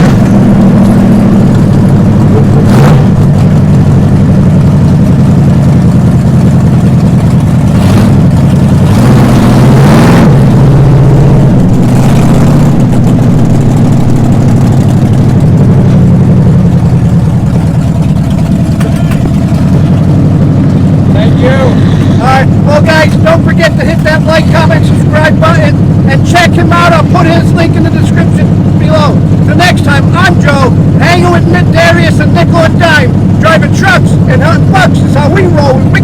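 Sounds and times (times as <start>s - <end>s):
truck engine running loud: 0.0s - 36.0s.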